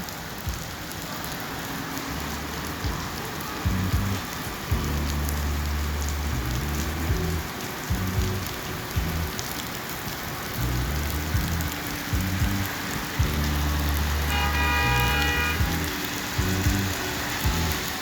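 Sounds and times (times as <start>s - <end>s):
heavy rain on street: 0.0s - 18.0s
low rumble: 2.2s - 9.4s, 10.6s - 17.9s.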